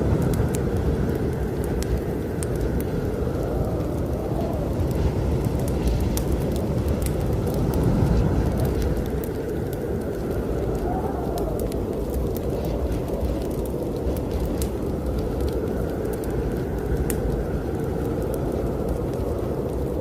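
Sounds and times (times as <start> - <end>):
strong wind blowing: 0.0 - 20.0
wood fire crackling: 0.0 - 20.0.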